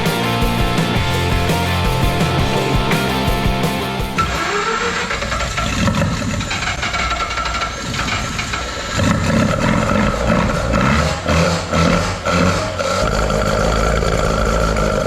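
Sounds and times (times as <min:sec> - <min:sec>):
rotary engine running: 0:00.0 - 0:15.0.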